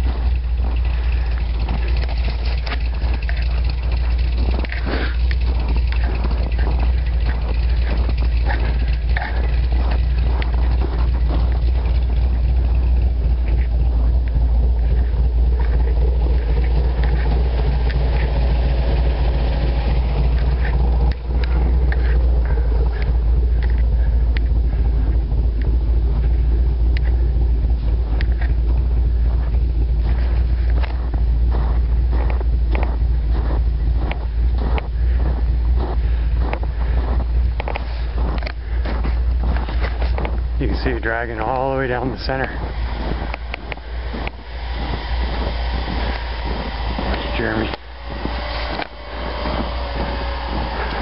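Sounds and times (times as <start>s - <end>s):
vehicle engine rumbling: 0.0s - 51.0s.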